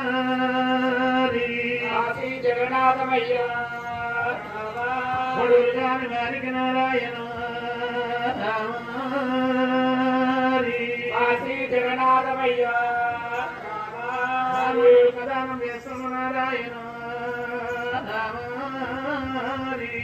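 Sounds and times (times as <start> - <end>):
man singing in chanted folk style: 0.0 - 20.0
steady low drone: 0.0 - 20.0.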